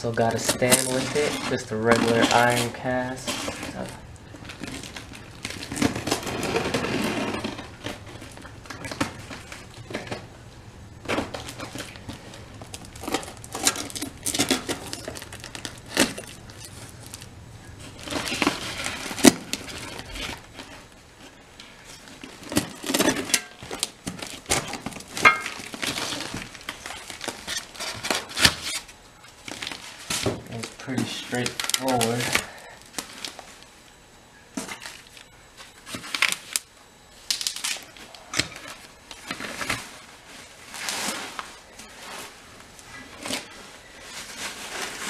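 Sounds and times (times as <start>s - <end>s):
packaging crinkling and rustling: 0.0s - 45.0s.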